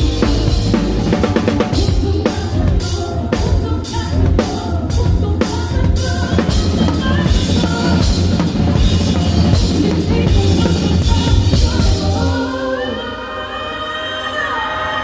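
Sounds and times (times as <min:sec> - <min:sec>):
bass guitar: 0:00.0 - 0:12.6
drum kit: 0:00.0 - 0:13.0
live band playing loudly: 0:00.0 - 0:13.4.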